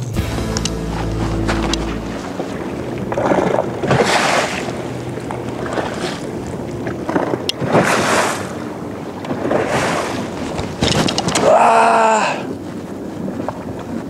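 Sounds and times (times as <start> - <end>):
strong wind on microphone: 0.0 - 14.0
water slapping around boat: 1.1 - 14.0.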